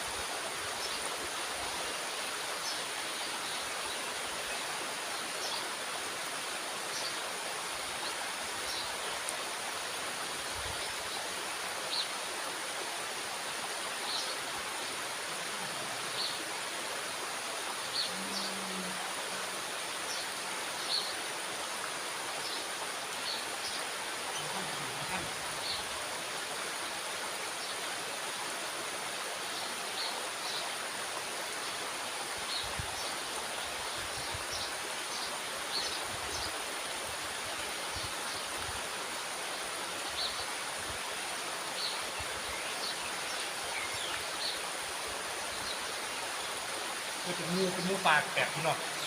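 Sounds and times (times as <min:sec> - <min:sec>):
water rushing from sluice gate: 0:00.0 - 0:49.0.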